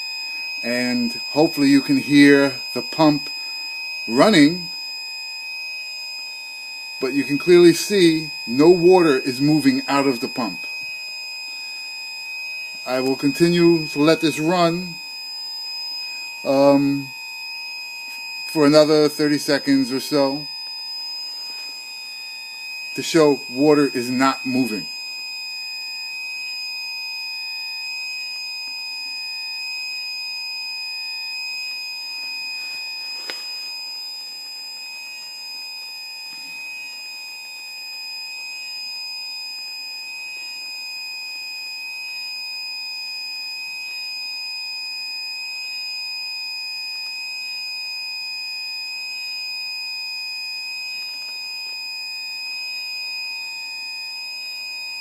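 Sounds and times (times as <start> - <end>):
high-pitched alarm tone: 0.0 - 55.0.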